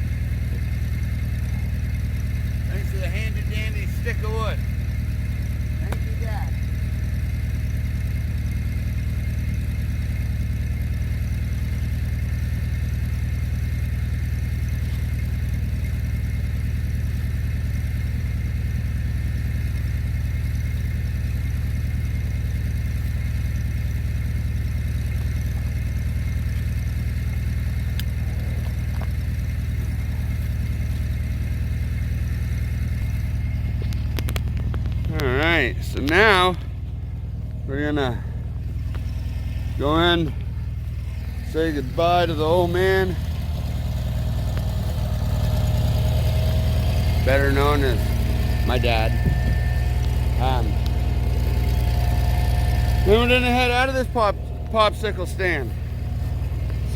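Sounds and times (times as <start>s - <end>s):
tractor engine running steadily: 0.0s - 56.9s.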